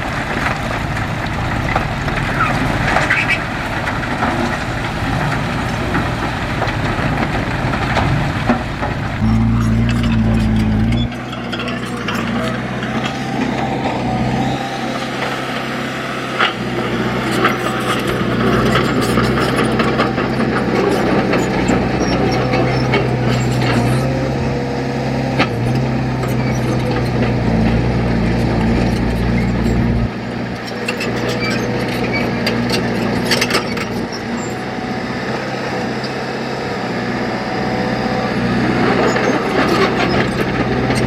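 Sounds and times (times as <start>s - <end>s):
heavy diesel engine running: 0.0s - 41.0s.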